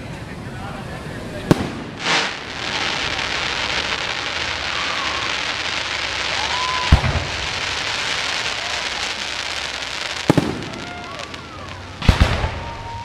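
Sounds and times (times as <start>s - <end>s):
fireworks crackling hiss: 0.0s - 13.0s.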